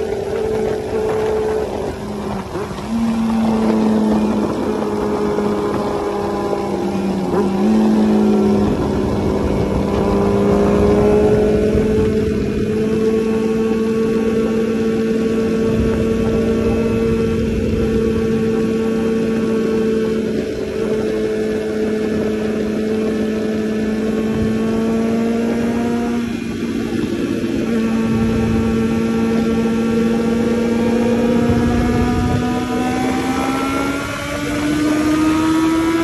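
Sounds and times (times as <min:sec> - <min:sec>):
motorcycle engine running: 0:00.0 - 0:36.0
wind rush: 0:00.0 - 0:36.0.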